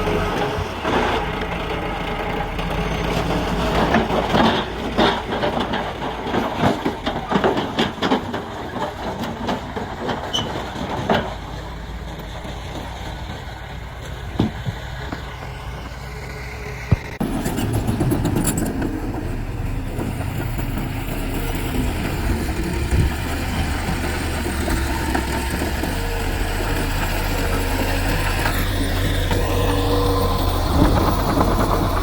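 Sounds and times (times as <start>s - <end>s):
diesel machinery rumbling: 0.0s - 32.0s.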